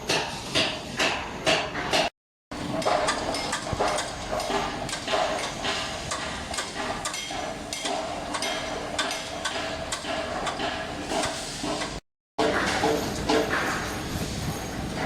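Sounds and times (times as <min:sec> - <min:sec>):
metallic knocks and clanks: 0:00.1 - 0:14.0.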